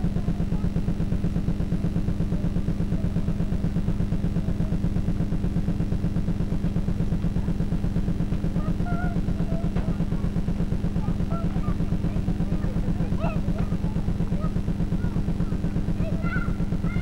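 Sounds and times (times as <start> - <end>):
pulsing low mechanical hum: 0.0 - 17.0.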